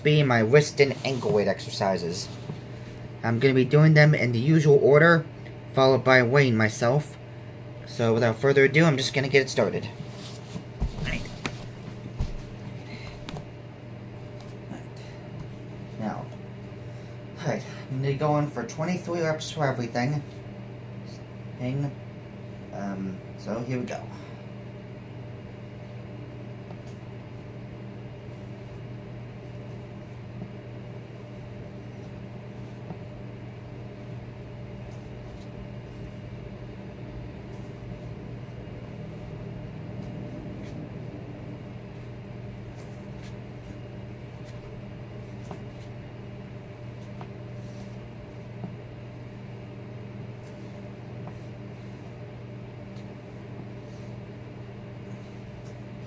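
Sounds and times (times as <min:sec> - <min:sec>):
appliance humming: 0:00.0 - 0:56.0.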